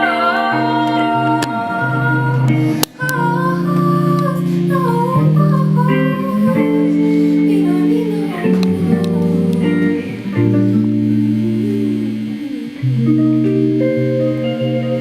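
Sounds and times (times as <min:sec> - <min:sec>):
guitar chords: 0:00.0 - 0:15.0
wavering melody line: 0:00.0 - 0:15.0.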